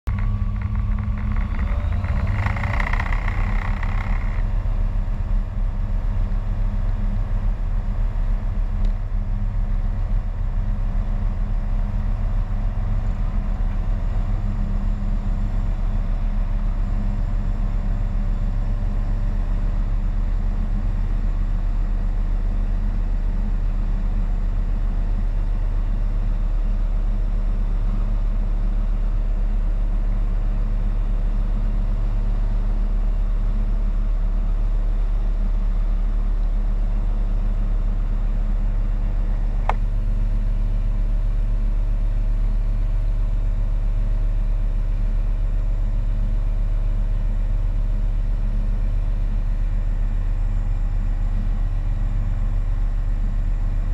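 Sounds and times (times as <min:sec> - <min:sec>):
aircraft engine and propeller drone: 0:00.1 - 0:53.9.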